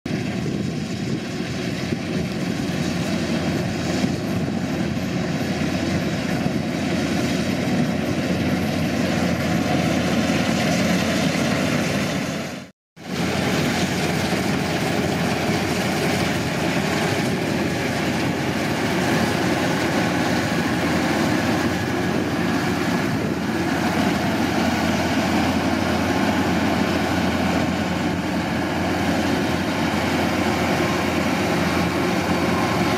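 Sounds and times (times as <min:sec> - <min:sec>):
combine harvester drone: 0:00.1 - 0:32.9.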